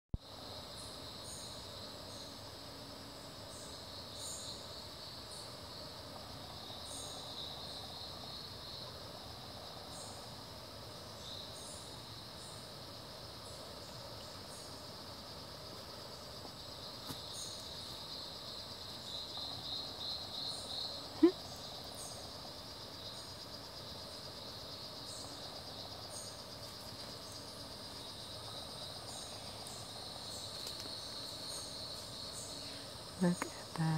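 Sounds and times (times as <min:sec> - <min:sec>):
insect chorus drone: 0:00.2 - 0:33.9.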